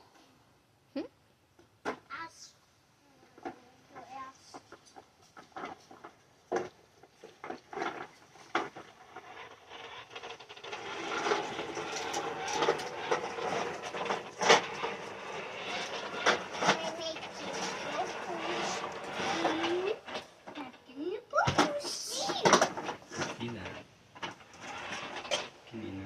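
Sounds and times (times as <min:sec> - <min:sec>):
toy lawnmower clattering rattle: 0:03.4 - 0:23.6, 0:24.2 - 0:25.6.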